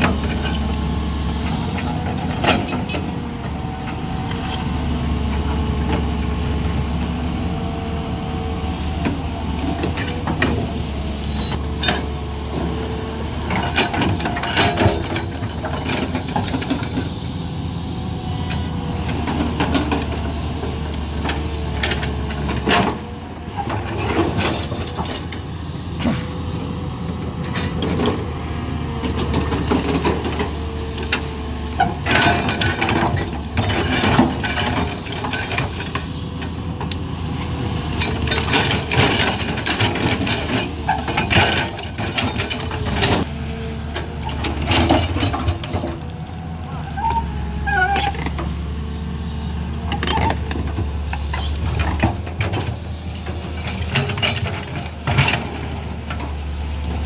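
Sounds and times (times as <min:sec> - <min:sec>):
diesel engine running: 0:00.0 - 0:57.0
excavator bucket and tracks clanking: 0:00.0 - 0:57.0.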